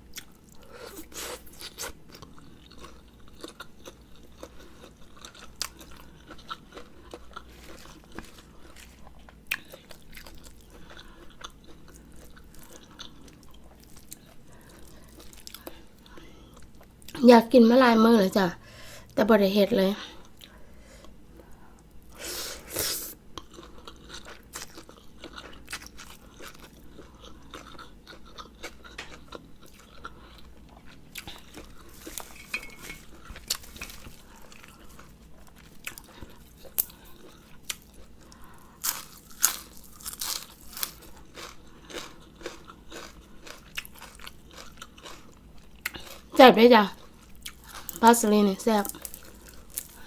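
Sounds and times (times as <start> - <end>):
crunchy chewing mouth sounds: 0.1 - 17.2, 22.6 - 32.4, 33.1 - 46.4.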